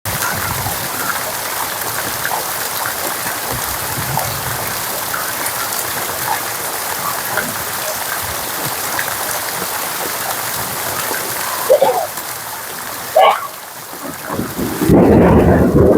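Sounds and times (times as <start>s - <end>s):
louder raindrops: 0.0s - 15.9s
steady rain hiss: 0.1s - 15.9s.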